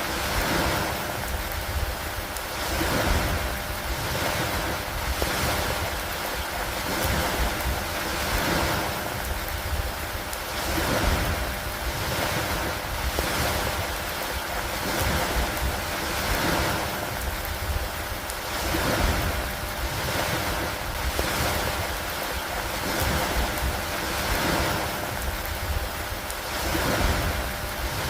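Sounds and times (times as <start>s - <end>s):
rushing storm noise: 0.0s - 28.0s
steady rain: 0.0s - 28.0s.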